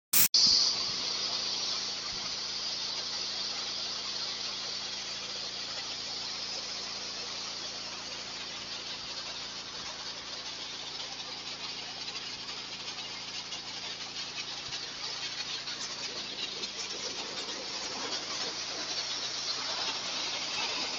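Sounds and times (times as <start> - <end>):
air-blasting nozzle hissing: 0.1 - 20.9.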